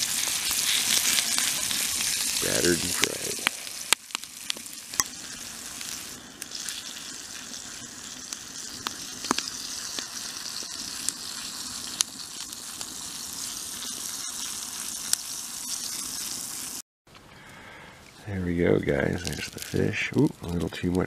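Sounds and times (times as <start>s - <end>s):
fish sizzling in oil: 0.0s - 16.8s, 19.0s - 21.0s
oil popping and crackling: 0.0s - 16.8s, 18.6s - 21.0s.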